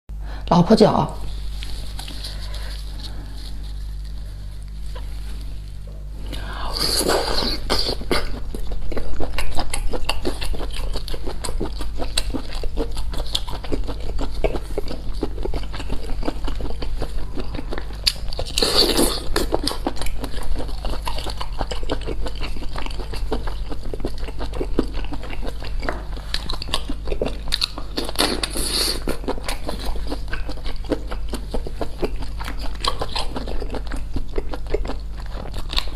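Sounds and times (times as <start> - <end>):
steady low hum: 0.1 - 35.9
wet chewing and crunching: 1.3 - 35.9.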